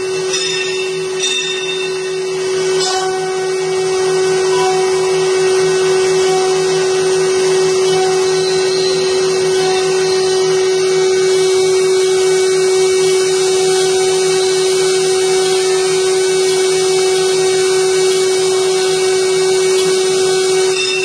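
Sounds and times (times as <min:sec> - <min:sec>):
router spindle whine: 0:00.0 - 0:21.0.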